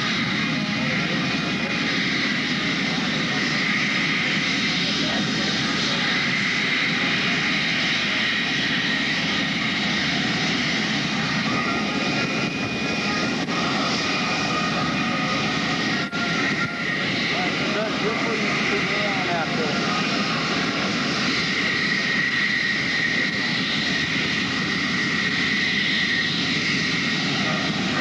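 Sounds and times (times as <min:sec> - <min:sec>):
airplane engine: 0:00.0 - 0:28.0.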